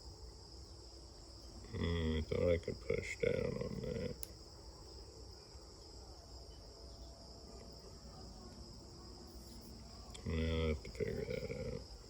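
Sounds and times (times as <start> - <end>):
crickets chirring: 0.0 - 12.0
low background noise: 0.0 - 12.0.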